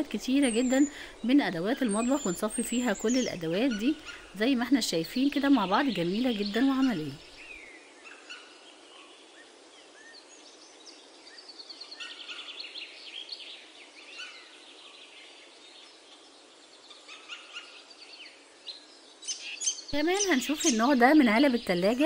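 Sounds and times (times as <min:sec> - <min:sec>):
faint hiss: 0:00.0 - 0:22.0
small birds chirping: 0:00.0 - 0:22.0.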